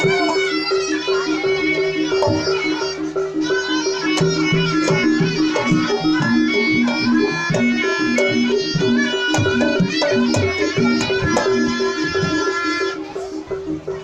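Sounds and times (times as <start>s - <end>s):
reedy shawm melody: 0.0s - 14.0s
sharp percussion strikes: 0.0s - 14.0s.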